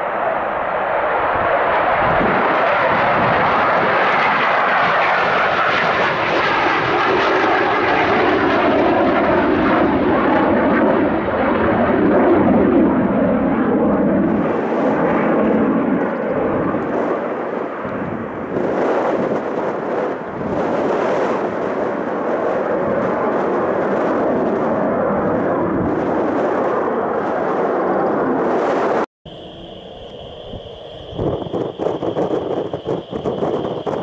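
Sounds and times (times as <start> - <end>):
jet engine roaring: 0.0 - 34.0.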